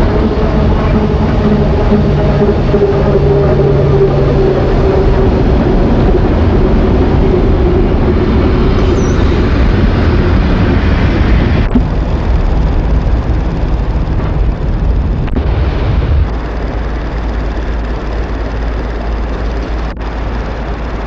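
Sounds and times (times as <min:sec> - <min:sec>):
electric locomotive rumbling past: 0:00.0 - 0:21.0.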